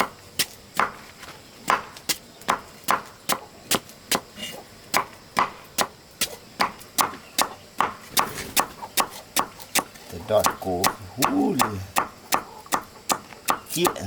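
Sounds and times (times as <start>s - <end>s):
blade chopping with sharp knocks: 1.7s - 4.3s, 4.9s - 14.0s.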